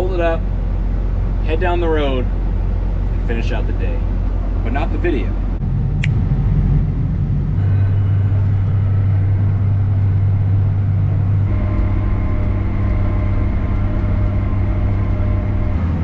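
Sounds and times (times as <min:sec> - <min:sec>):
tractor engine humming: 0:00.0 - 0:16.0.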